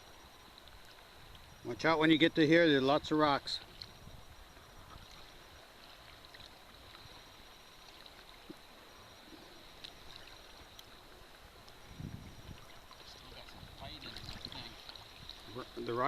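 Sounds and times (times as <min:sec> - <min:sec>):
faint wash of water: 0:00.0 - 0:16.0.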